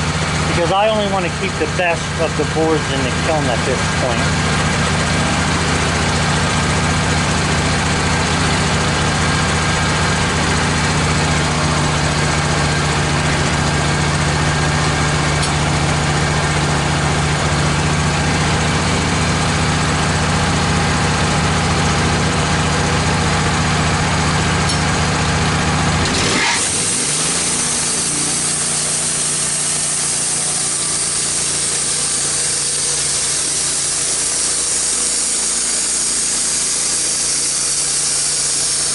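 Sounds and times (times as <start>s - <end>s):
sawmill engine: 0.0s - 38.9s.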